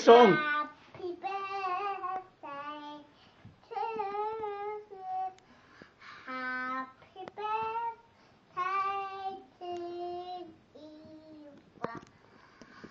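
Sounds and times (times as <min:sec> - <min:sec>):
girl singing unaccompanied: 0:00.2 - 0:12.4.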